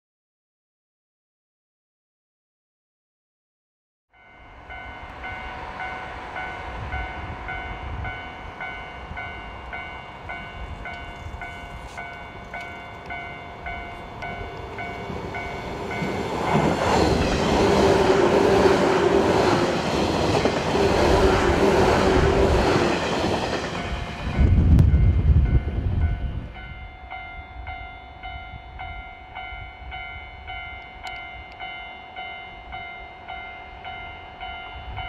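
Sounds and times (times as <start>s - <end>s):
level-crossing warning bell: 4.1s - 35.0s
electric train passing: 4.2s - 35.0s.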